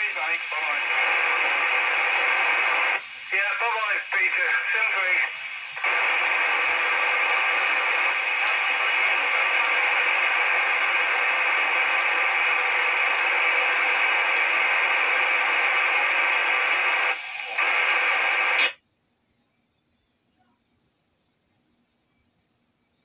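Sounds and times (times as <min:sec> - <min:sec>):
radio receiver hiss: 0:00.0 - 0:18.8.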